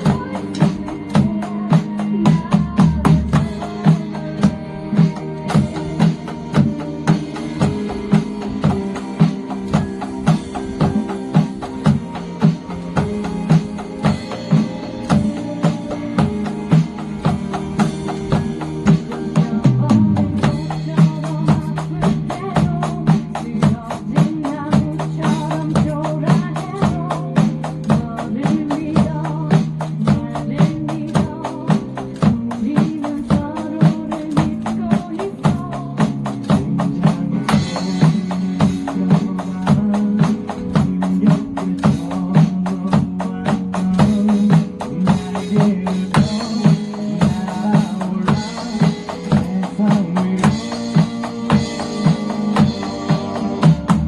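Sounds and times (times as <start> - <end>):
drum kit beat: 0.0 - 54.0
recorded pop song: 0.0 - 54.0.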